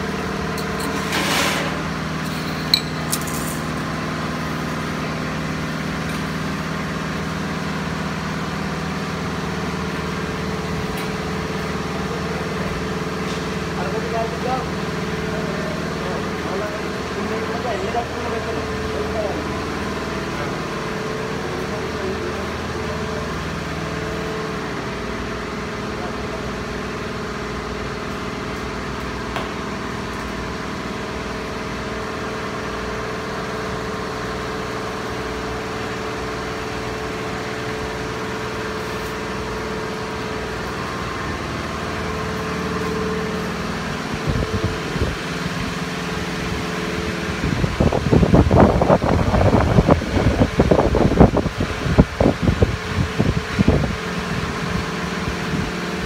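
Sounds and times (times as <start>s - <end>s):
fan or motor humming: 0.0s - 56.0s.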